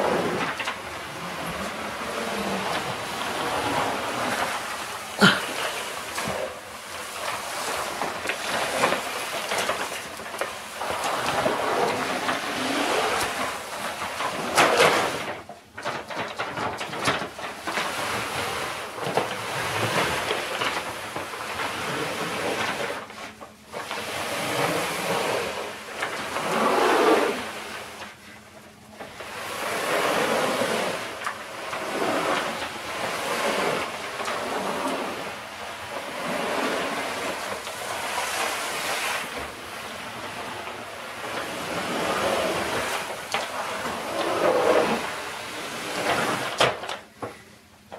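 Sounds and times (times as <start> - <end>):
paper bag scraping over rug: 0.0 - 15.4, 16.0 - 28.3, 29.0 - 46.6
paper bag crackles: 0.0 - 47.1.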